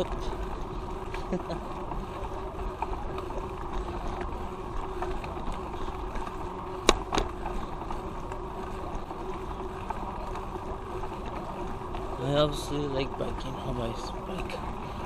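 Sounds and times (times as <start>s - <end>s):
bicycle rolling: 0.0s - 15.0s.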